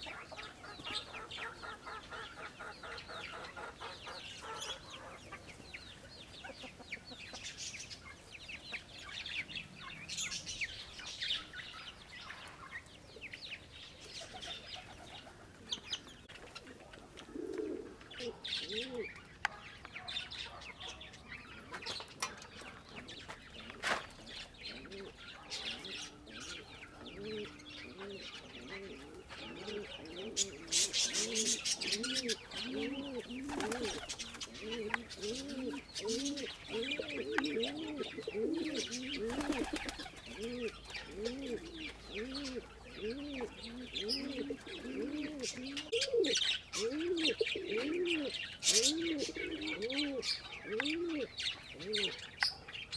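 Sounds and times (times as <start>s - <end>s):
pigeons cooing: 0.0s - 52.5s
small birds chirping: 0.0s - 52.9s.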